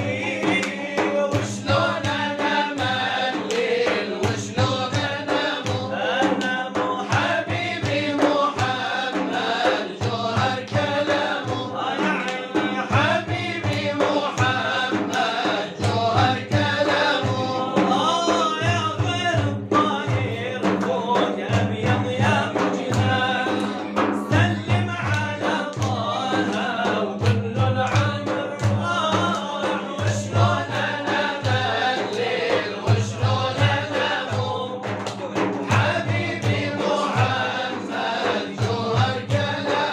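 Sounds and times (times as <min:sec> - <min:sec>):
low drum beat: 0:00.0 - 0:39.9
male voices chanting together: 0:00.0 - 0:39.9.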